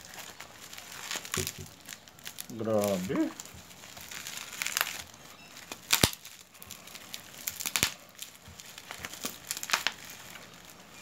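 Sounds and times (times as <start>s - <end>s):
plastic wrap crinkling: 0.0s - 11.0s
plastic wrap snapping: 0.0s - 11.0s.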